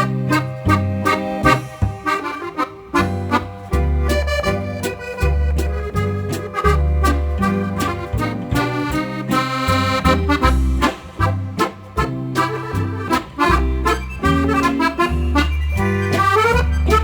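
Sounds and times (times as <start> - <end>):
accordion tune with rhythmic bass: 0.0 - 17.0.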